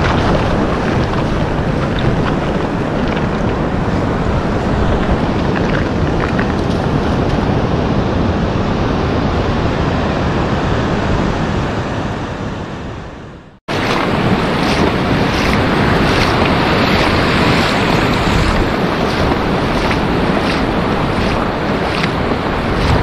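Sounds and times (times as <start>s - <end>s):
surf washing on beach: 0.0s - 10.8s, 13.7s - 23.0s
wind buffeting microphone: 0.0s - 12.7s, 13.7s - 23.0s.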